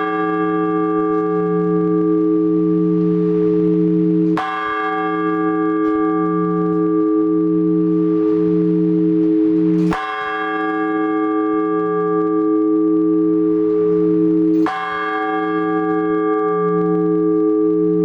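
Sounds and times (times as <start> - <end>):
large church bell ringing: 0.0 - 18.0.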